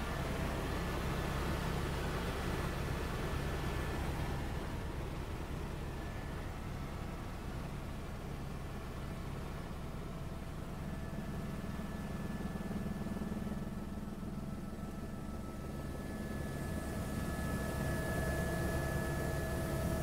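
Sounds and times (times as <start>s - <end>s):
helicopter engine and rotors drone: 0.0s - 20.0s.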